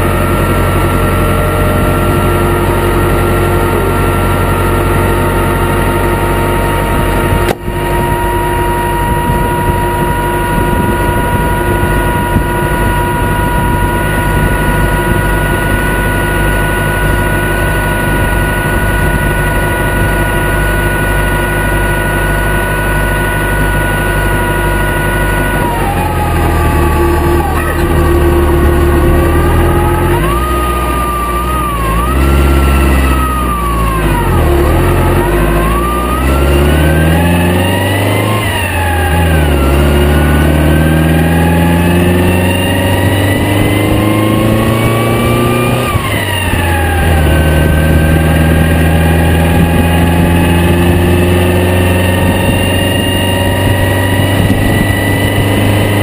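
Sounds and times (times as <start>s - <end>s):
car engine idling: 0.0s - 56.0s
steady whining tones: 0.0s - 56.0s.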